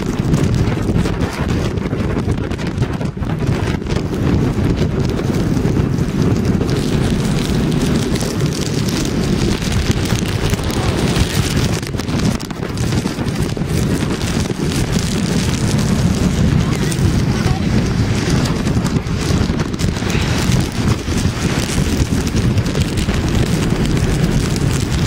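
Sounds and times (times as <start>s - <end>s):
rain driving against camera: 0.0s - 25.0s
wind buffeting microphone: 0.0s - 25.0s.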